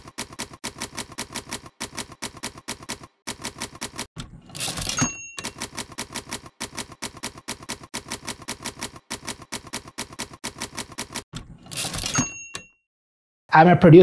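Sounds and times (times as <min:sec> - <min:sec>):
manual typewriter keys clicking: 0:00.0 - 0:12.7.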